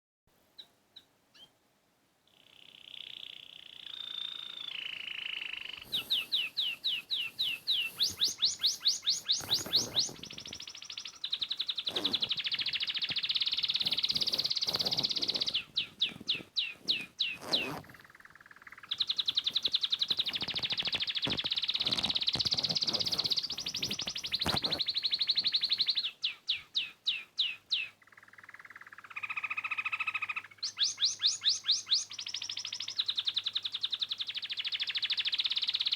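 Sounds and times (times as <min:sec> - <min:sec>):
songbird singing: 0:00.6 - 0:01.6, 0:02.3 - 0:35.9.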